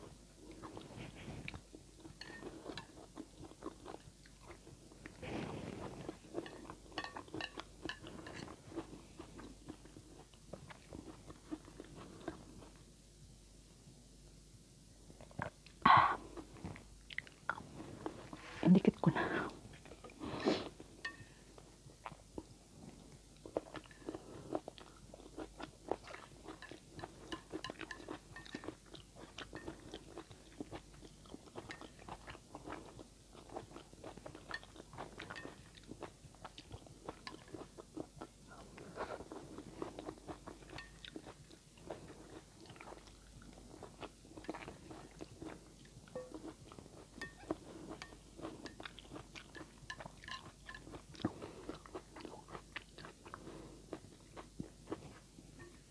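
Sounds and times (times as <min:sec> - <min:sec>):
person chewing food: 0:00.0 - 0:12.9, 0:15.2 - 0:18.6, 0:19.4 - 0:55.9.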